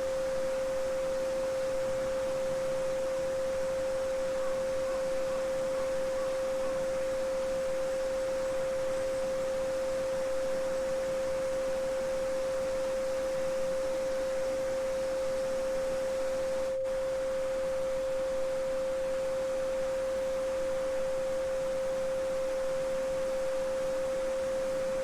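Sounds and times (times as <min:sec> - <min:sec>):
steady sine tone: 0:00.0 - 0:25.0.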